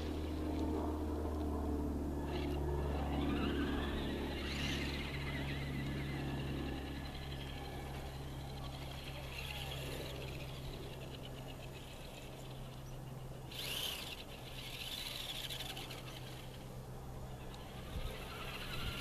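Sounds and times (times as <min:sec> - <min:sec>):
toy truck electric motor whining: 0:02.2 - 0:19.0.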